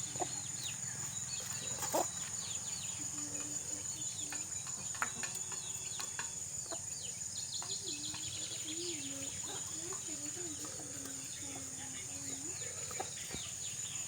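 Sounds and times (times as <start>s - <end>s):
birds chirping: 0.0s - 14.0s
insects droning: 0.0s - 14.0s.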